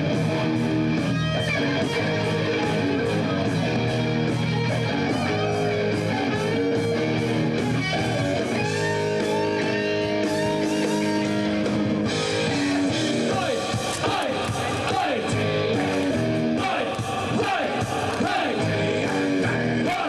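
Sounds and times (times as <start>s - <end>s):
electric guitar bending notes: 0.0s - 20.0s
rock band playing live: 0.0s - 20.0s.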